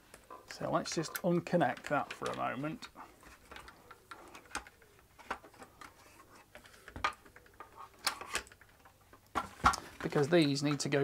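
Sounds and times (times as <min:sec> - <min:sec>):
plastic and metal parts clicking: 0:00.1 - 0:11.0.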